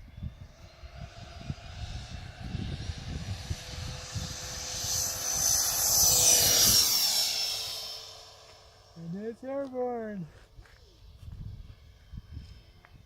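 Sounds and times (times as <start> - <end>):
electric ducted fans whining: 0.0 - 13.0.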